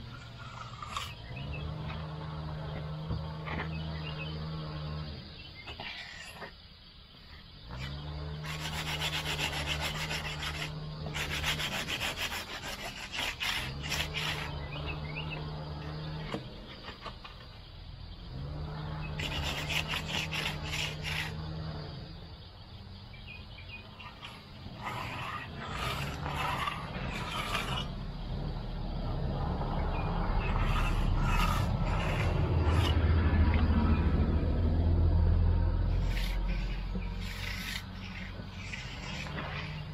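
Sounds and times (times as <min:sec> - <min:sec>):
tool scraping concrete: 0:00.0 - 0:04.9, 0:05.7 - 0:06.6, 0:07.7 - 0:17.6, 0:18.6 - 0:21.9, 0:23.7 - 0:28.5, 0:29.5 - 0:34.2, 0:35.8 - 0:39.9
steady low hum: 0:00.0 - 0:39.9.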